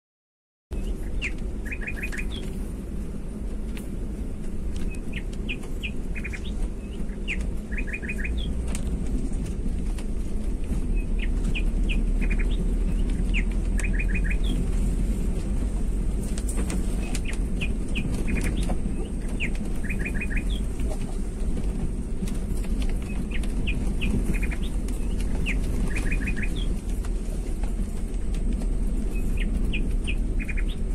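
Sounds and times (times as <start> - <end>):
birds chirping: 0.7 - 2.8, 4.7 - 15.1, 16.2 - 30.9
steady low rumble: 0.7 - 30.9.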